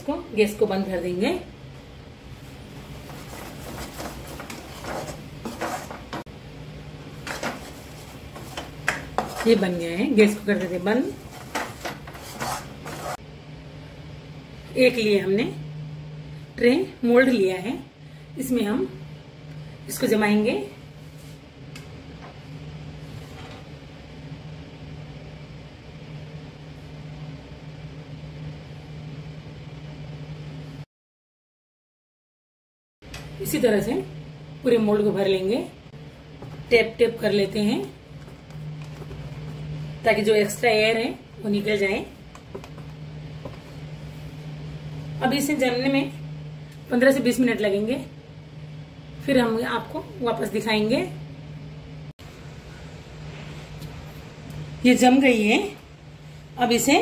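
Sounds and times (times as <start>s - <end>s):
steady low hum: 0.0s - 30.9s, 33.0s - 57.0s.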